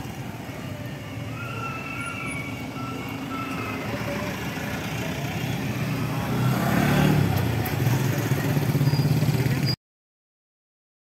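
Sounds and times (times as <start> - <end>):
street traffic: 0.0 - 9.8.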